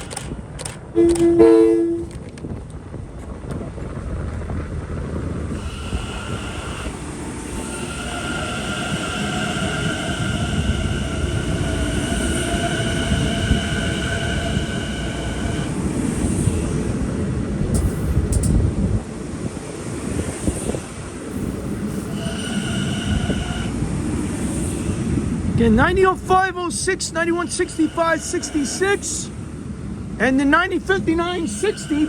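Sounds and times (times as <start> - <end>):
train wheels rumbling on rails: 0.0 - 32.0
high whine: 5.5 - 32.0.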